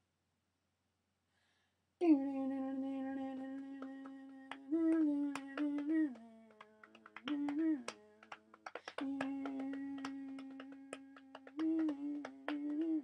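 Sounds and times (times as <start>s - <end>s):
person humming: 2.0s - 13.0s.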